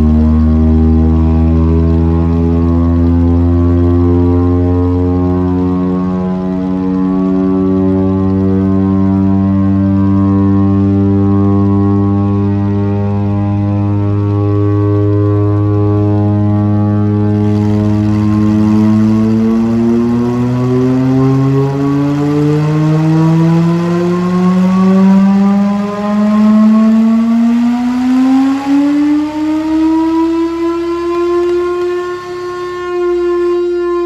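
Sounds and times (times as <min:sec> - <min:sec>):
mechanical siren winding up: 0:00.0 - 0:34.0.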